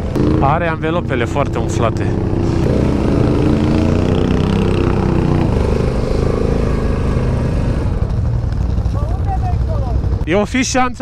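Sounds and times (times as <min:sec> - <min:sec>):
atv engine running: 0:00.0 - 0:10.7.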